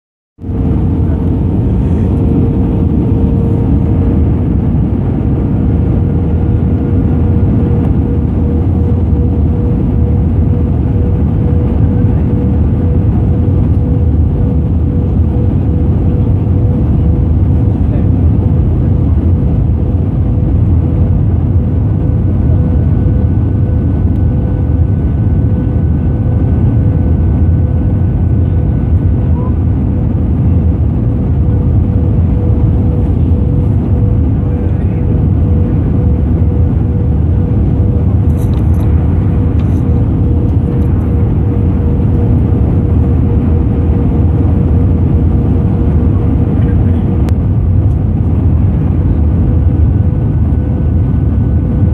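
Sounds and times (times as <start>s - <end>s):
jet engines roaring: 0.4s - 51.9s
steady low hum: 0.4s - 51.9s.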